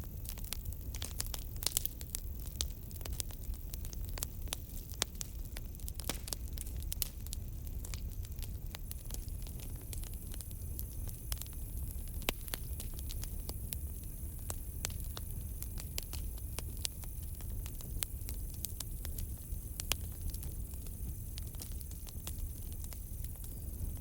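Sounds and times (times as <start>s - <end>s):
campfire crackling: 0.0s - 24.0s
low rumble of fire: 0.0s - 24.0s.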